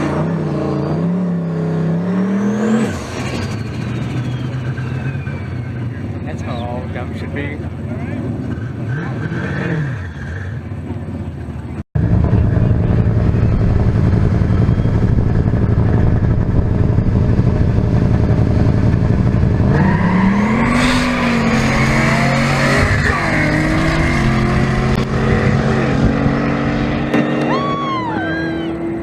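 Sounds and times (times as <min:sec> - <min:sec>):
engine revving: 0:00.0 - 0:10.6, 0:12.0 - 0:29.0
race car engines rumbling: 0:00.0 - 0:29.0.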